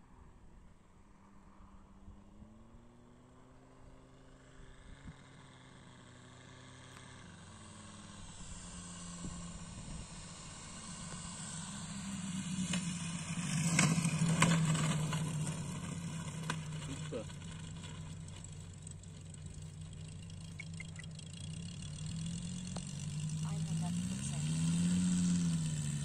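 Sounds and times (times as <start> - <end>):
model plane engine running: 4.0 - 26.0.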